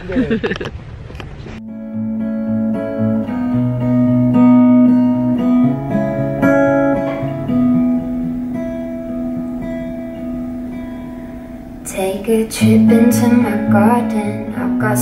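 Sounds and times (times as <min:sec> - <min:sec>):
plucked acoustic guitar chords: 0:01.6 - 0:15.0.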